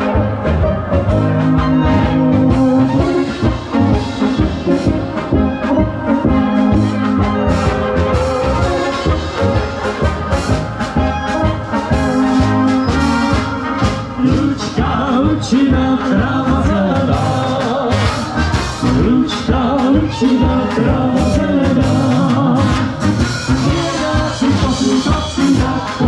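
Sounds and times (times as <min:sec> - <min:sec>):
flugelhorns and tenor horns: 0:00.0 - 0:26.0
trumpets: 0:00.0 - 0:26.0
tubas: 0:00.0 - 0:26.0.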